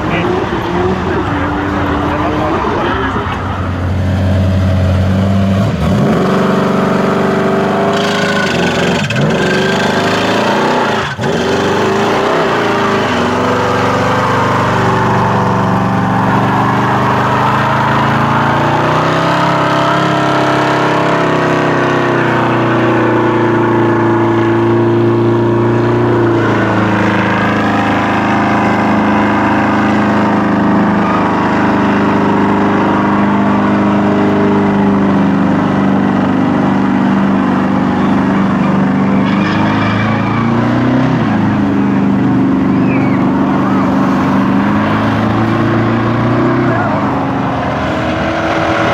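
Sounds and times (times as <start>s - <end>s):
car engine revving hard: 0.0s - 48.9s.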